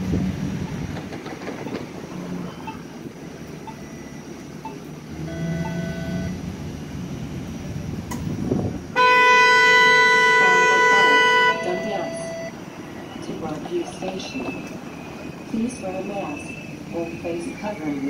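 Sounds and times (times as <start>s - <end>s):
streetcar wheels rumbling: 0.0s - 18.0s.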